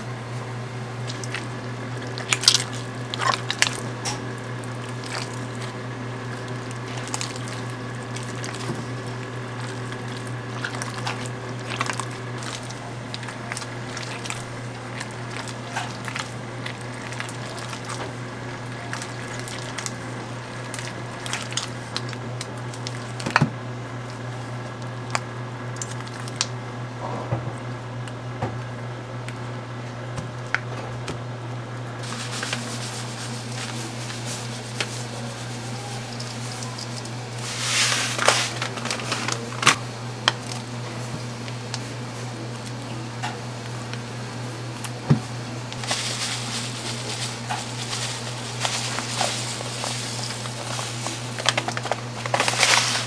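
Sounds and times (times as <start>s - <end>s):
cream cheese squishing in bowl: 0.0s - 26.9s, 27.5s - 53.0s.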